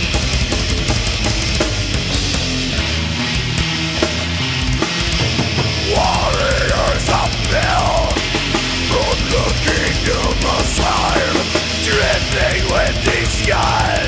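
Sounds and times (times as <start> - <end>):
distorted death metal band: 0.0 - 14.0.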